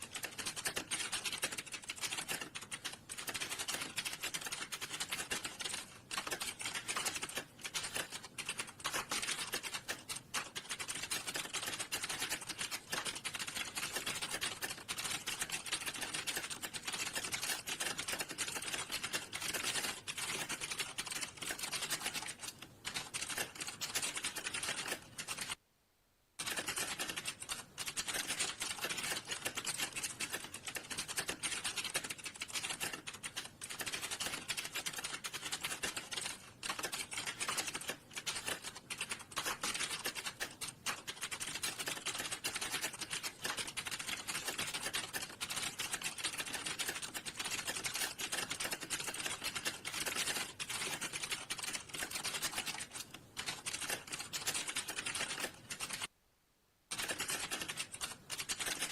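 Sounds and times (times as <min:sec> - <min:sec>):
fast typing on a keyboard: 0:00.0 - 0:25.6, 0:26.4 - 0:56.1, 0:56.9 - 0:58.9.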